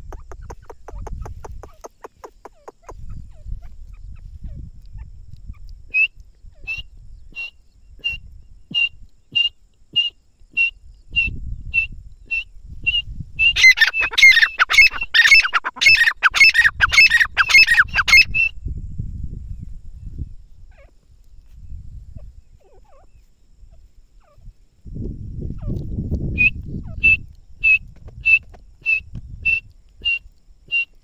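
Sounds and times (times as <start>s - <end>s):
francolin calling: 0.0s - 18.8s, 20.0s - 21.0s, 21.7s - 24.6s, 25.5s - 31.0s.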